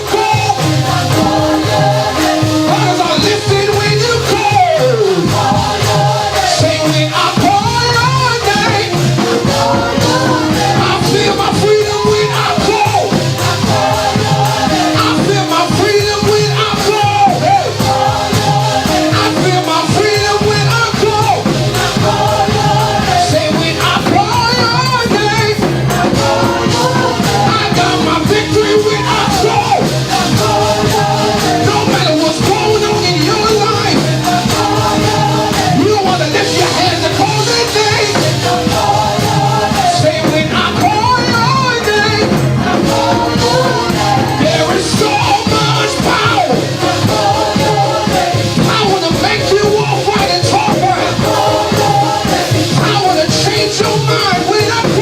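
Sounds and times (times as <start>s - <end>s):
full band playing: 0.0s - 55.0s
voices singing gospel song: 0.0s - 55.0s.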